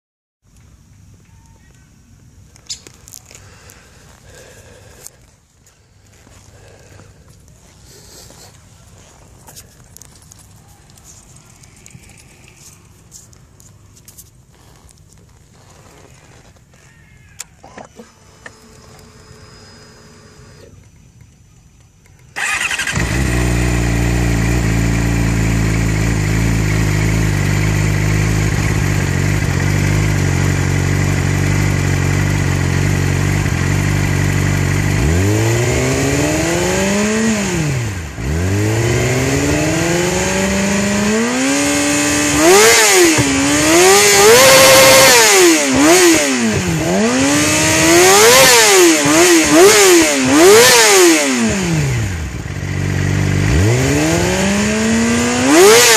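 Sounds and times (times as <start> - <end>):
motorcycle engine idling and revving: 2.3 - 55.9.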